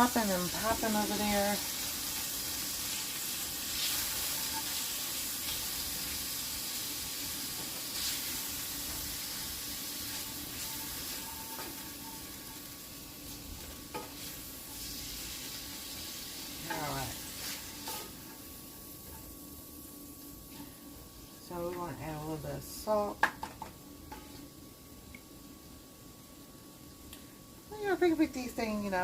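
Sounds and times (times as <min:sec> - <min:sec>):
burgers sizzling in a pan: 0:00.0 - 0:29.0.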